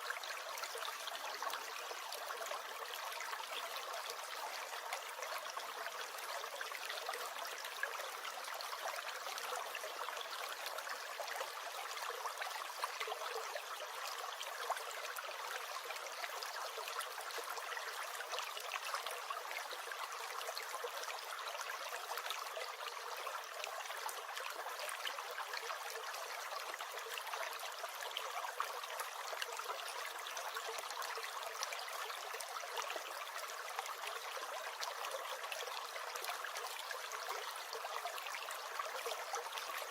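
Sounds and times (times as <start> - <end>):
stream gurgling and trickling: 0.0 - 39.9.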